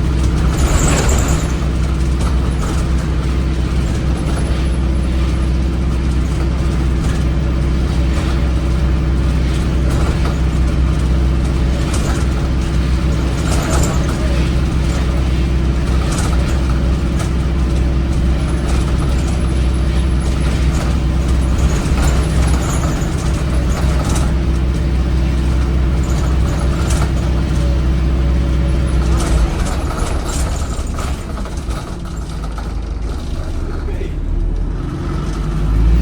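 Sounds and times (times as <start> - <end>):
diesel bus engine droning: 0.0 - 36.0
light rattles and clicks: 6.1 - 27.9, 28.5 - 35.8.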